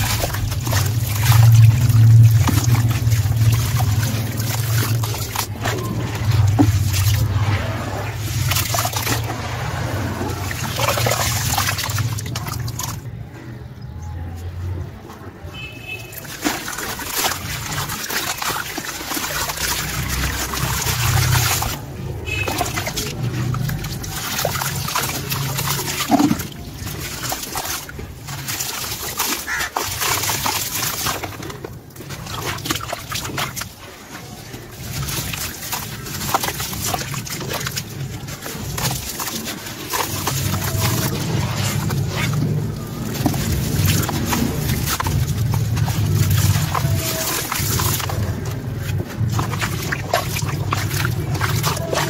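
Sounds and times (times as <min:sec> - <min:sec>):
gritty crackling of crumbling chunks: 0:00.0 - 0:13.1, 0:15.6 - 0:52.0
water sloshing and trickling: 0:00.0 - 0:52.0.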